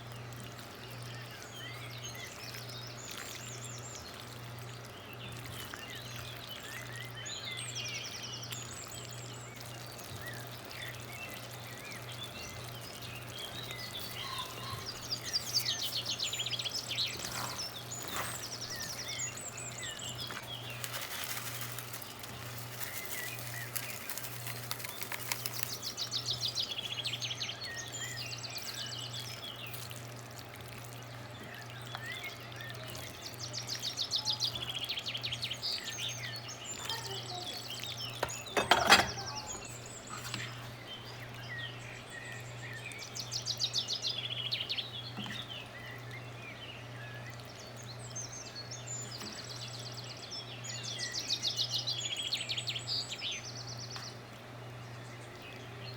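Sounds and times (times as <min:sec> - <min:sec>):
birds chirping in trills: 0:00.0 - 0:55.9.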